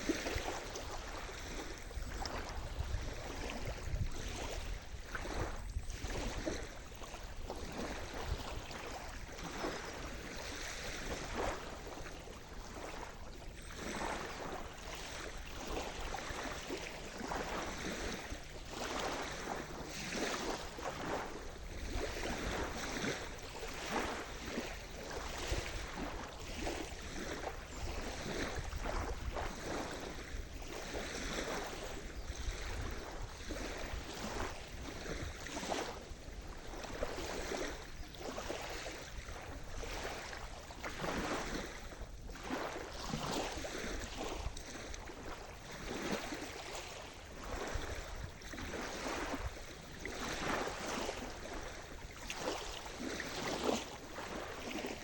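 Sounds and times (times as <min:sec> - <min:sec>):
low rumble of sea: 0:00.0 - 0:55.0
small waves breaking on beach: 0:00.0 - 0:55.0.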